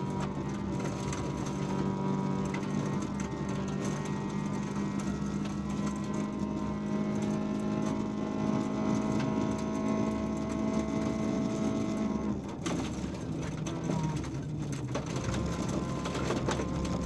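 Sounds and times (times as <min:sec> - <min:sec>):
car engine at high revs: 0:00.0 - 0:17.0
gravel rattling against car underside: 0:00.0 - 0:17.0.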